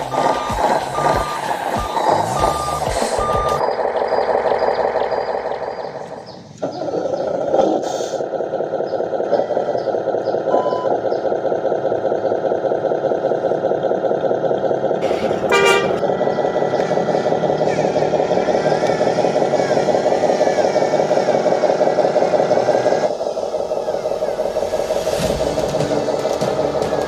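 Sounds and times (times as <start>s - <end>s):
truck engine running: 0.0s - 27.0s
truck reversing beeper: 0.0s - 27.0s.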